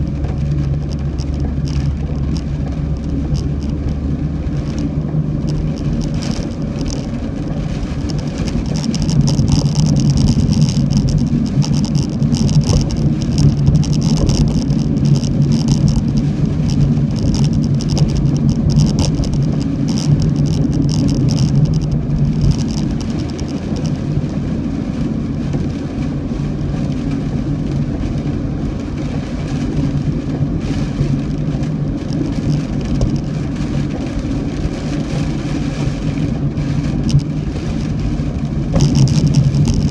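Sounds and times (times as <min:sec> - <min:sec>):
car road and engine hum: 0:00.0 - 0:39.9
heavy rain hitting car: 0:00.0 - 0:39.9.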